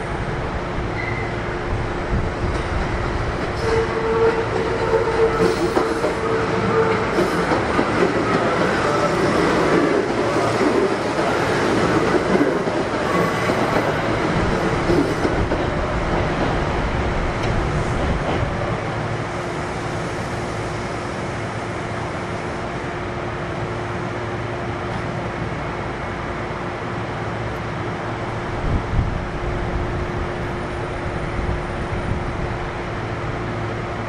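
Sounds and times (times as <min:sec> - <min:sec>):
train equipment hum: 0:00.0 - 0:34.0.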